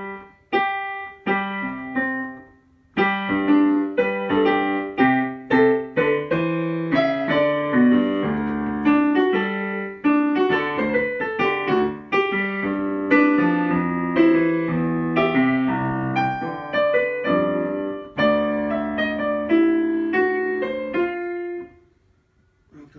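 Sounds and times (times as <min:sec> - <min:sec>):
jazz piano piece: 0:00.0 - 0:22.9.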